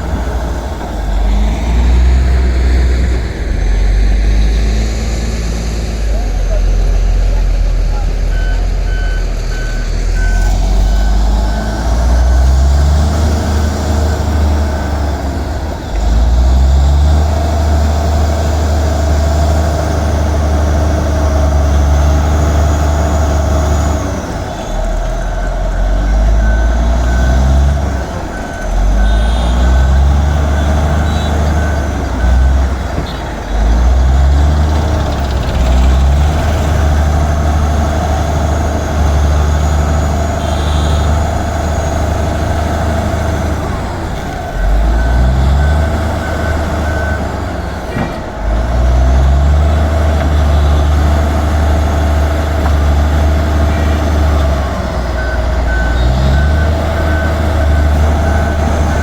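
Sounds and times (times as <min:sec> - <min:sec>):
bulldozer diesel engine: 0:00.0 - 0:59.0
reversing alarm beeping: 0:07.9 - 0:59.0.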